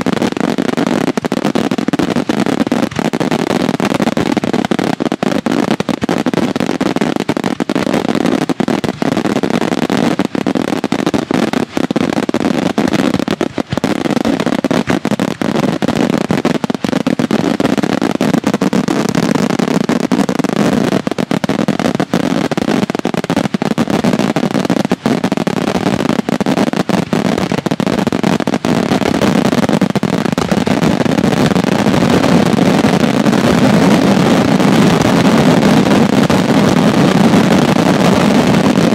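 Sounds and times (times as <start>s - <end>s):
fireworks bursting: 0.0s - 38.9s.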